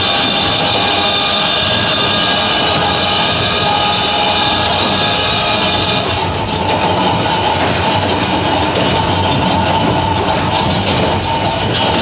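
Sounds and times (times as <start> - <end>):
high ringing tones: 0.0 - 12.0
railcar running noise: 0.0 - 12.0
wheels clicking over rail: 0.0 - 12.0.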